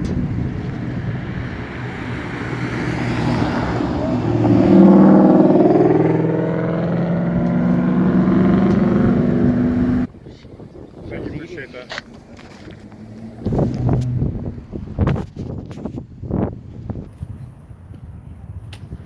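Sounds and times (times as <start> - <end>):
vehicle engine running: 0.0 - 10.1, 11.5 - 16.8.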